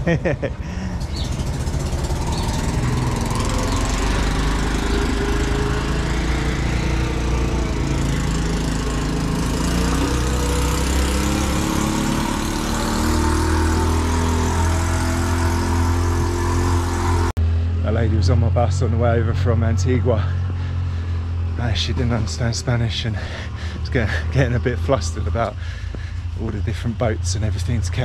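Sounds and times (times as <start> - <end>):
small engine puttering: 0.6 - 17.3, 19.8 - 28.0.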